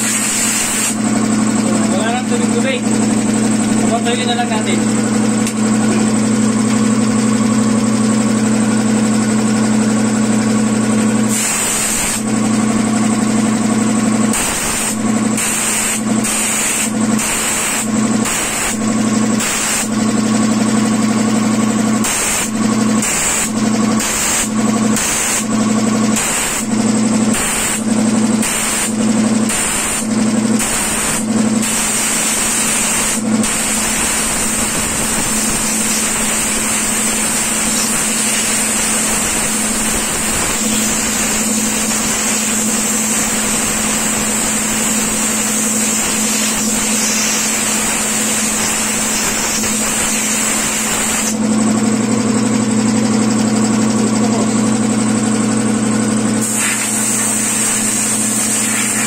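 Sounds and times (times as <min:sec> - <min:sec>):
air compressor running: 0:00.0 - 0:59.0.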